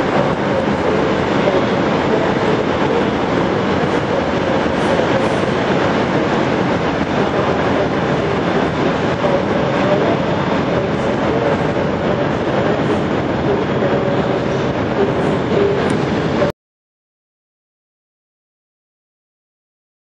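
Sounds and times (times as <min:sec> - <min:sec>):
train running over points: 0:00.0 - 0:16.5.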